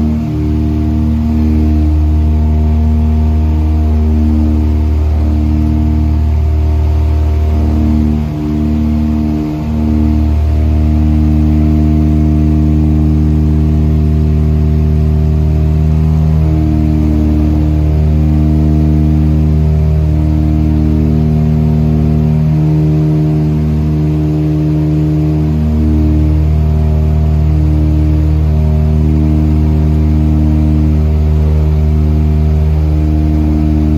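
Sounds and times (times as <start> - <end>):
propeller plane engines droning: 0.0 - 33.9.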